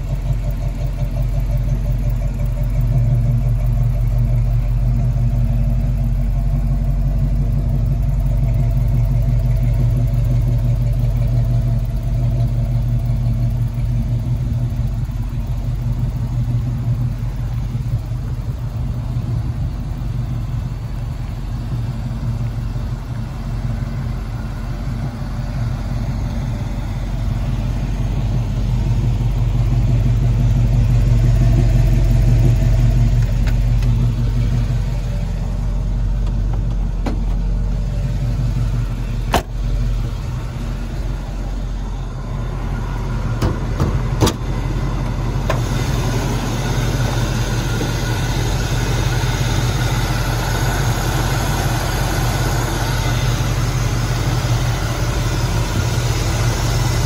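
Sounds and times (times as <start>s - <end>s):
pickup engine idling: 0.0s - 57.0s.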